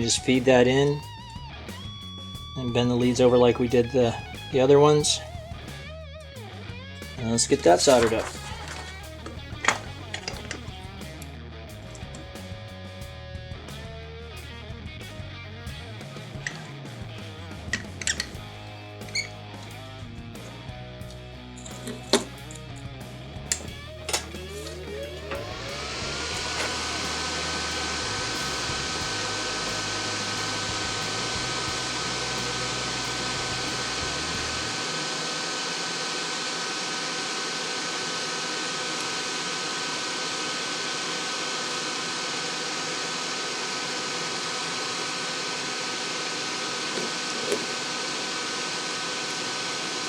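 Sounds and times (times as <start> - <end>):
electric fan whirring: 0.0 - 5.9, 7.2 - 11.3, 16.1 - 22.8, 23.4 - 50.0.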